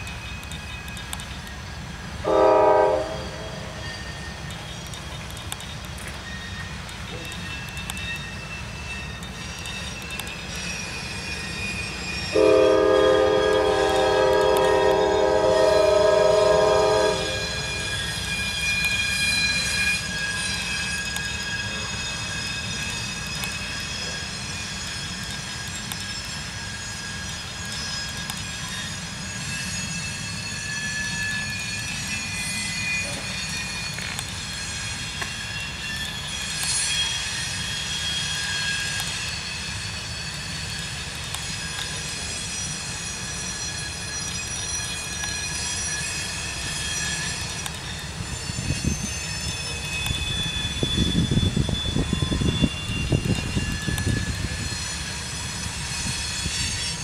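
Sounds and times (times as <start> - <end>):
train wheels rumbling on rails: 0.0 - 57.0
high-pitched wheel squeals: 2.3 - 5.3, 5.9 - 57.0.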